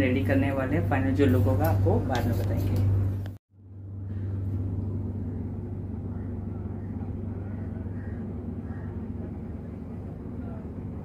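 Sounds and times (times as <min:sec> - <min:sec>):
low engine hum: 0:01.4 - 0:11.0.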